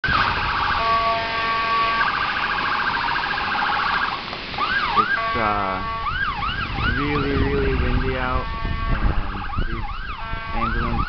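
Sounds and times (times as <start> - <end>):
ambulance siren: 0.0 - 11.0.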